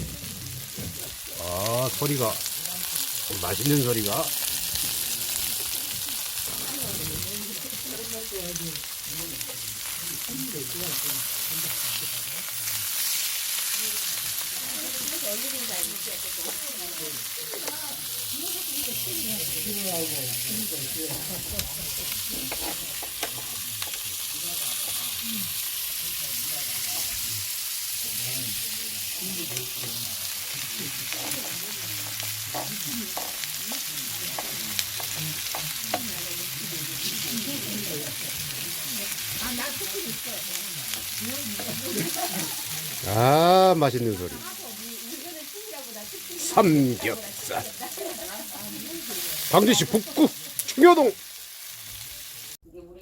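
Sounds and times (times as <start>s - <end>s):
meat sizzling on a grill: 0.0s - 52.6s.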